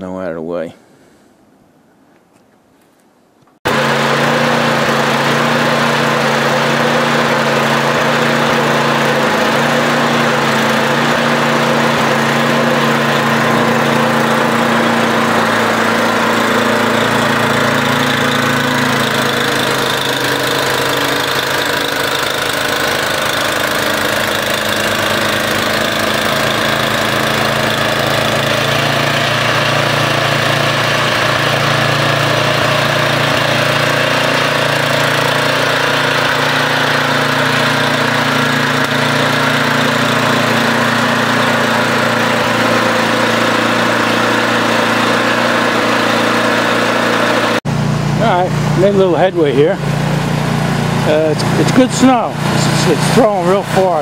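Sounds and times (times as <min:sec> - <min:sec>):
snowblower engine running: 0:03.6 - 0:54.0.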